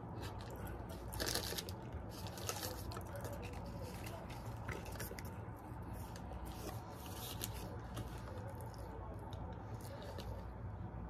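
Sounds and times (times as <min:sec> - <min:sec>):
paper wrapper crinkling: 0:00.1 - 0:10.5.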